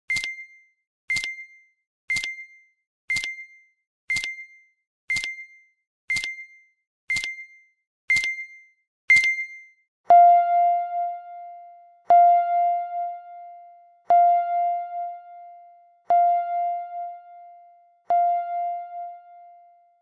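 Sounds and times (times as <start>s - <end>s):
click with high beep: 0.1s - 20.0s.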